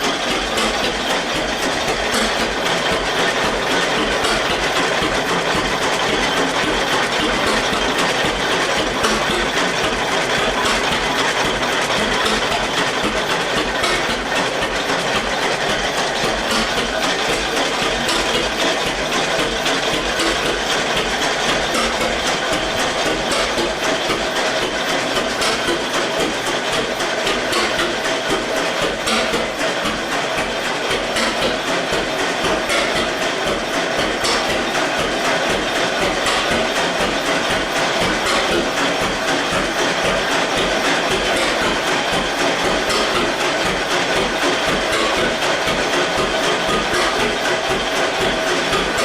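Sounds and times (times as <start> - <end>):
tractor engine chattering: 0.0 - 49.0.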